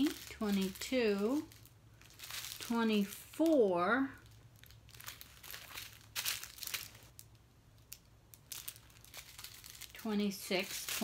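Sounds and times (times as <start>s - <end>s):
plastic bags crinkling and rustling: 0.0s - 11.0s.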